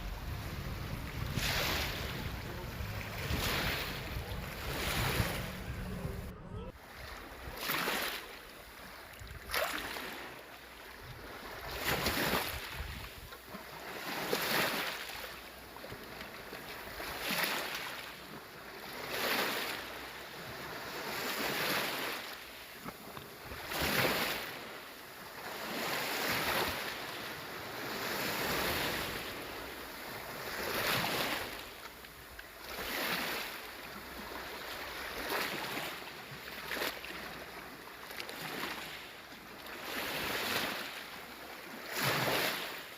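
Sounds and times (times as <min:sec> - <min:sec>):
small waves washing ashore: 0:00.0 - 0:42.9.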